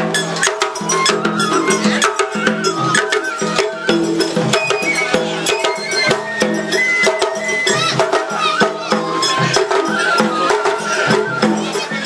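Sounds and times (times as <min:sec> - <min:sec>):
drums and percussion: 0:00.0 - 0:12.0
high-pitched melody: 0:00.2 - 0:12.0.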